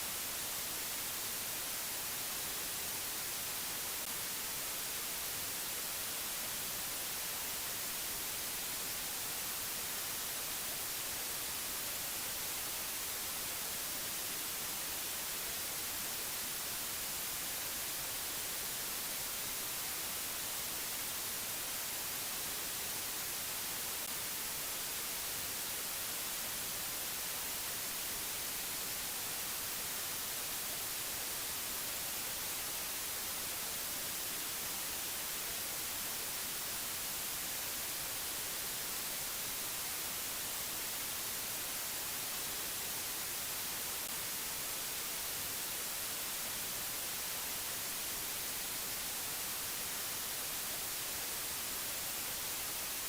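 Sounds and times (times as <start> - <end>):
static-like hiss: 0.0 - 53.0.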